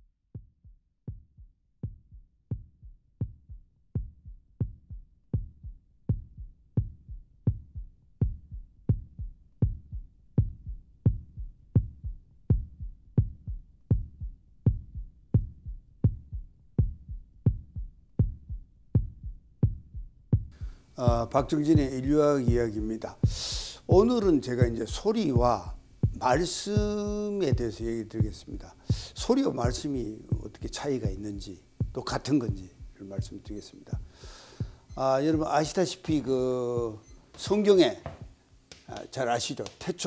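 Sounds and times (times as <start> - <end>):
deep thumping beat: 0.4 - 39.0.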